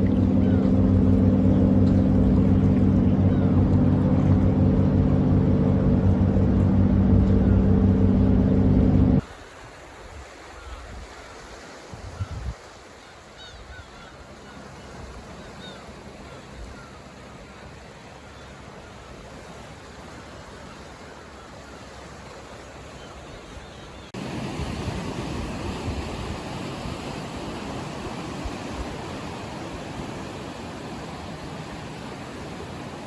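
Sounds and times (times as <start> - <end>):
sea waves on shore: 0.0 - 33.0
wind: 0.0 - 33.0.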